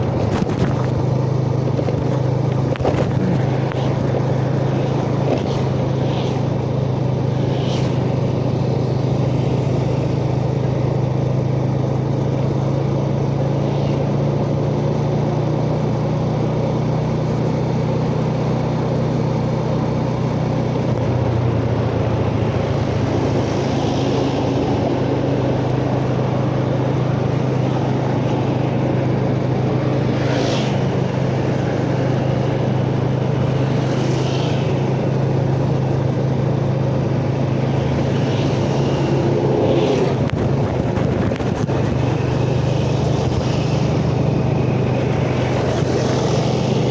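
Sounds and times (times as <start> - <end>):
motorcycle engine running: 0.0 - 46.9
road and wind noise: 0.0 - 46.9.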